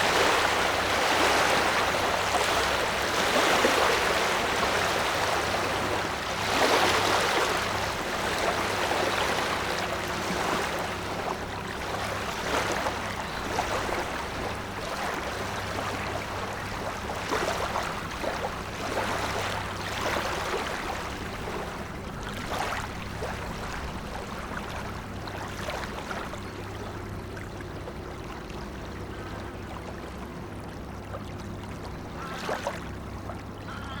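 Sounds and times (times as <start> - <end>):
wake waves splashing on river: 0.0 - 27.4, 30.8 - 33.9
steady low hum: 0.0 - 34.0.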